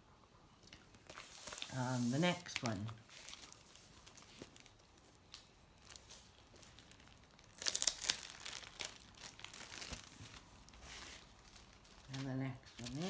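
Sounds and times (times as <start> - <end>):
plastic wrapping crinkling: 0.8 - 13.0.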